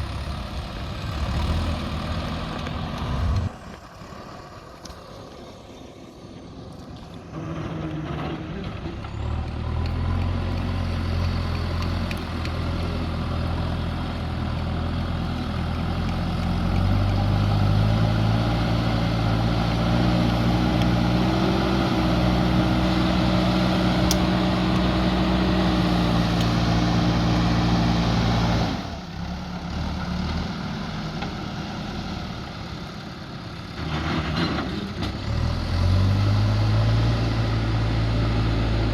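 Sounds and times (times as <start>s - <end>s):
diesel engine revving: 0.0s - 5.7s, 7.3s - 38.9s.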